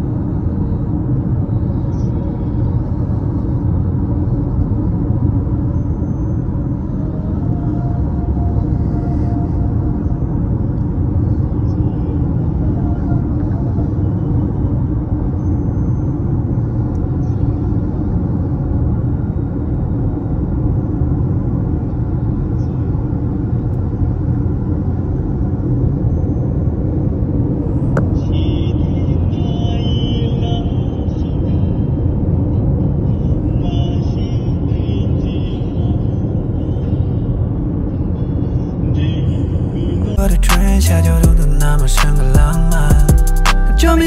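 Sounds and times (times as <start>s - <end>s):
car road rumble from inside: 0.0s - 44.0s.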